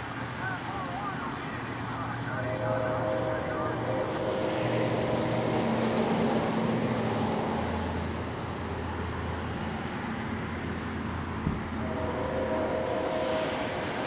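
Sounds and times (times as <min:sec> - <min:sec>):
diesel locomotive engine rumble: 0:00.0 - 0:14.0.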